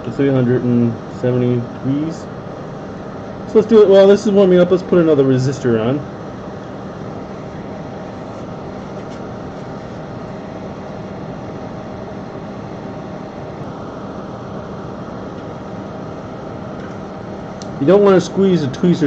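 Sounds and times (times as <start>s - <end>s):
hot-air blower hissing and humming: 0.0s - 19.0s.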